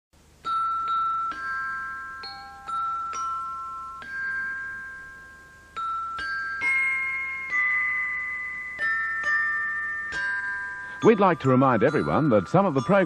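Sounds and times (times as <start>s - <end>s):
slow bell-like tune: 0.4s - 13.0s.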